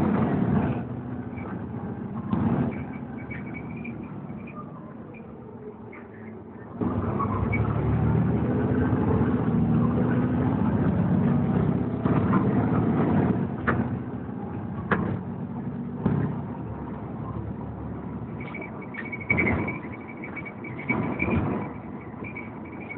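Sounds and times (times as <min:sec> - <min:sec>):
bus diesel engine under load: 0:00.0 - 0:22.9.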